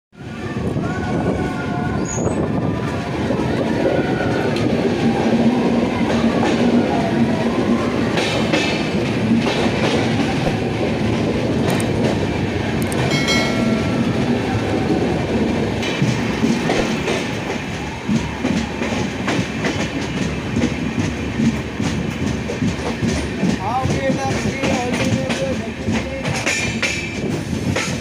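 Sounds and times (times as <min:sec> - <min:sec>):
train rumbling at speed: 0:00.2 - 0:28.0.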